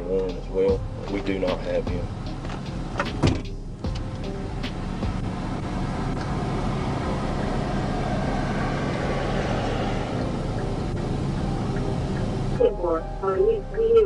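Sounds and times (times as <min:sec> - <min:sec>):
engine hum: 0:00.0 - 0:14.0
road noise: 0:00.0 - 0:14.0.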